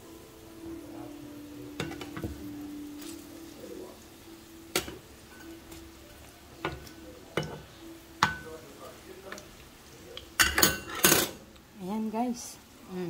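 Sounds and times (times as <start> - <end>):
fritters sizzling in a frying pan: 0.0 - 13.0.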